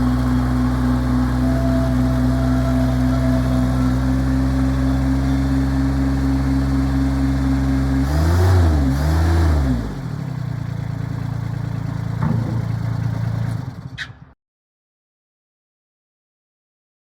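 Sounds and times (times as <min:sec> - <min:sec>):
diesel engine running and revving: 0:00.0 - 0:14.3.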